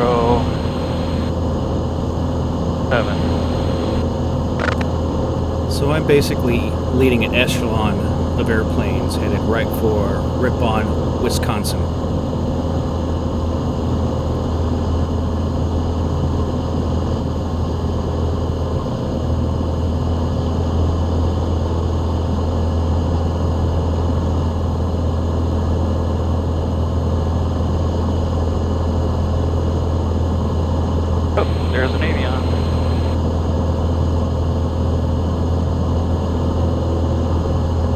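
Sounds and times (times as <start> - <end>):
airplane engine and propeller drone: 0.0 - 37.9.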